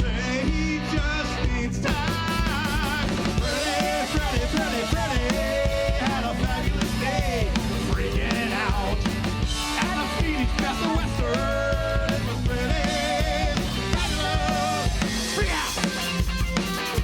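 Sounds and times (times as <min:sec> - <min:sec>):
band playing funk: 0:00.0 - 0:17.0
driving bass line: 0:00.0 - 0:17.0
drum kit: 0:00.0 - 0:17.0.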